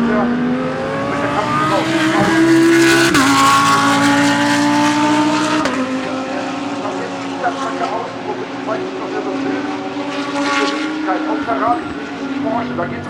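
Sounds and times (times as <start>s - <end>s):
race car engine accelerating: 0.0s - 13.0s
engine upshift: 0.7s - 13.0s.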